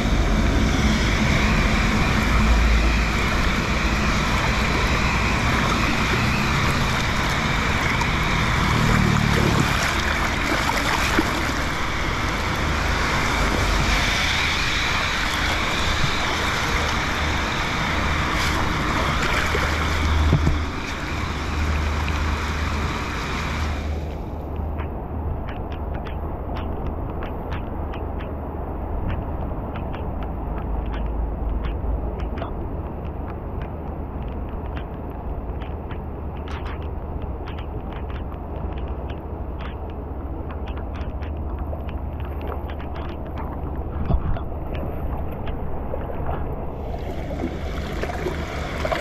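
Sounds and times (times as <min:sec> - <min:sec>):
low rumble: 0:00.0 - 0:49.0
rain on running water: 0:02.3 - 0:24.9, 0:32.2 - 0:49.0.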